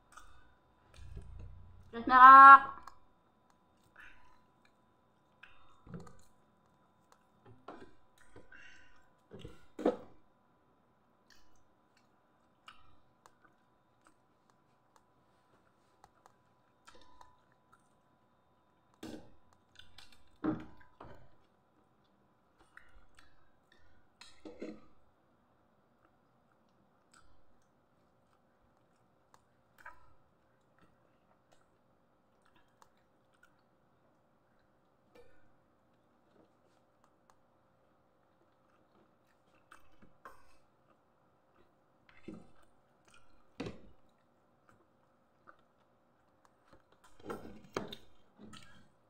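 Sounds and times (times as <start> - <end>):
soft chewing: 0.0 - 2.0, 2.8 - 49.0
faint clicks and taps of eating: 2.8 - 10.2, 11.2 - 25.2, 26.0 - 49.0.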